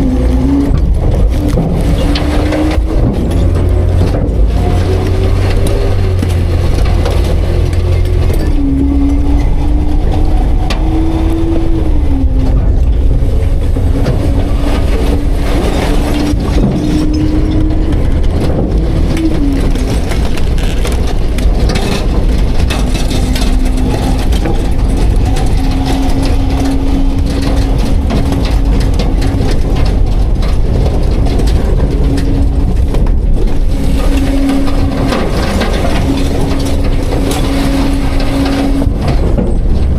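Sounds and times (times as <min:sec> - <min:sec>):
engine and hydraulic hum: 0:00.0 - 0:39.9
packer mechanical clatter: 0:00.0 - 0:39.9.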